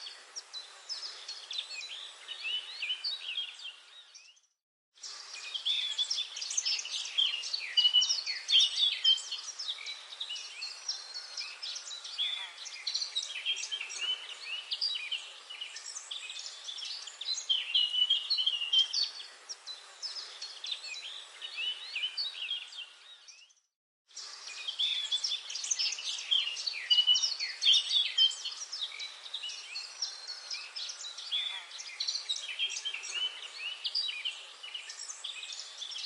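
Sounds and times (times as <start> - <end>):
chorus of birds chirping: 0.0 - 36.0.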